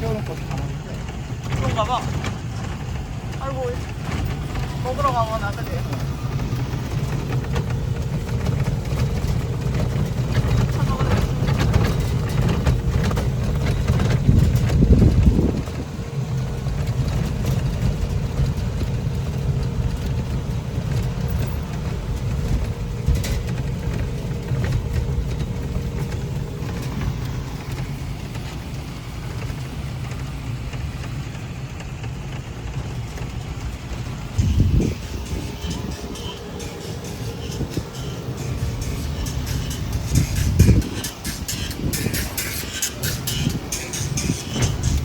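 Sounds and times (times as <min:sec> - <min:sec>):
cart road noise rumble: 0:00.0 - 0:45.0.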